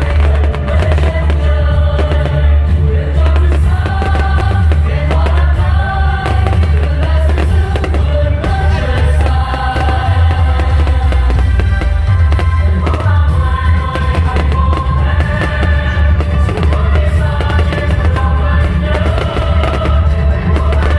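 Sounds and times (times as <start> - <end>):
heavy bass: 0.0 - 20.9
loud music with singing: 0.0 - 20.9.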